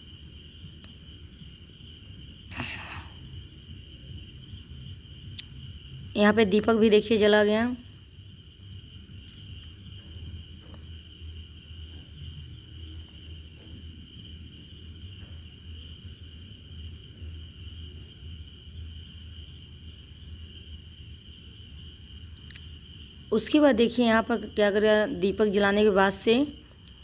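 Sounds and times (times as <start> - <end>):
high-pitched insect-like trill: 0.0 - 27.0
low steady hum: 0.0 - 27.0.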